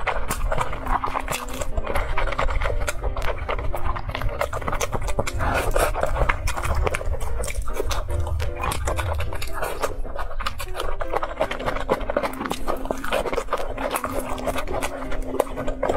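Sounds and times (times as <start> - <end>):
noodles slurped and chewed: 0.0 - 15.9.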